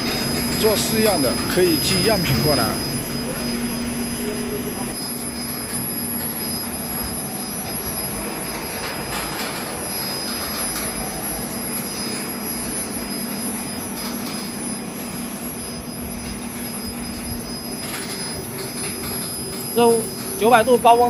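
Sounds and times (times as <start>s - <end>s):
machine hum: 0.0s - 21.0s
thin high whine: 0.0s - 21.0s.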